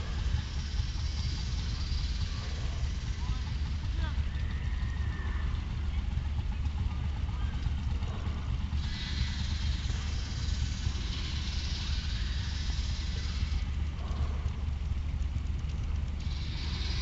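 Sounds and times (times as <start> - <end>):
hiss: 0.0 - 5.8, 7.9 - 15.1, 16.0 - 17.0.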